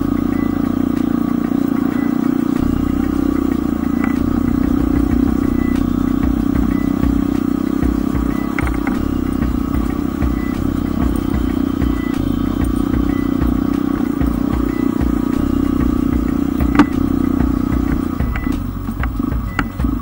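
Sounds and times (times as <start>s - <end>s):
bike rattling over ruts: 0.0s - 20.0s
motorbike engine drone: 0.0s - 20.0s.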